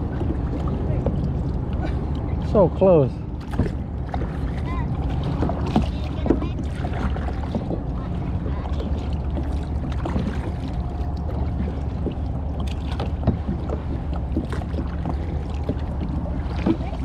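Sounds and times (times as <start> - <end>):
paddle splashing water: 0.0 - 17.0.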